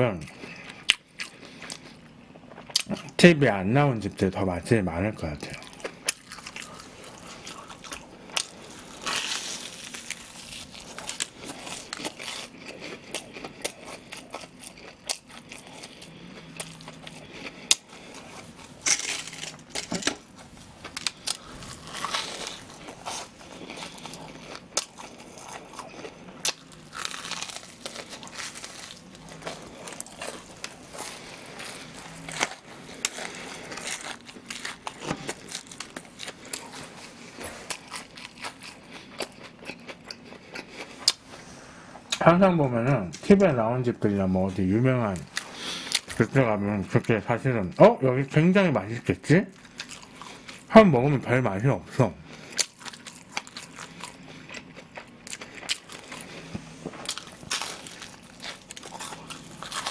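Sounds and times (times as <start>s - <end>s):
crunching and chewing fried food: 0.0s - 3.3s, 4.0s - 42.2s, 43.2s - 59.9s.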